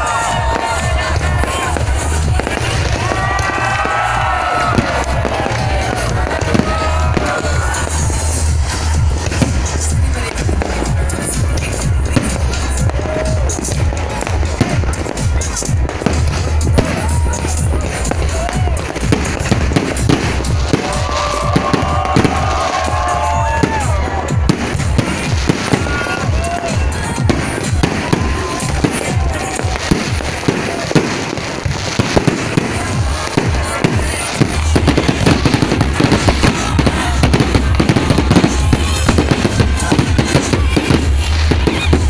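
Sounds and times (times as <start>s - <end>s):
fireworks bangs and crackles: 0.0s - 42.0s
music: 0.0s - 42.0s.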